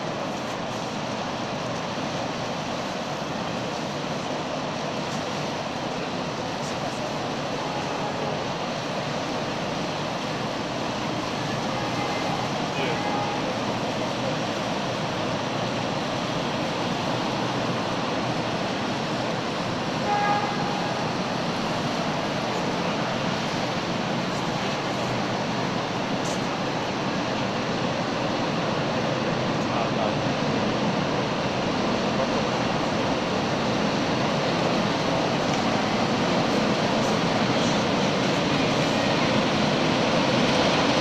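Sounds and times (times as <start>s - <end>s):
boat engine: 0.0s - 41.0s
propeller churning water: 0.0s - 41.0s.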